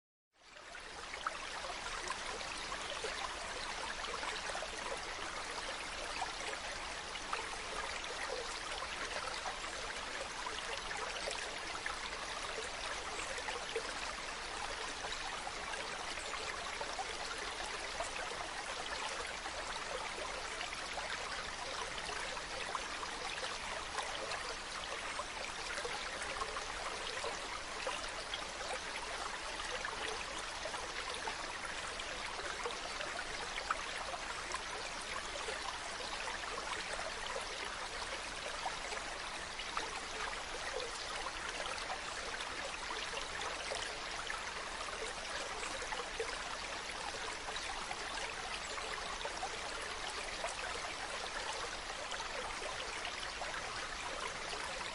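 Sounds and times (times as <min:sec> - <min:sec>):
stream running over rocks: 0:00.4 - 0:54.9.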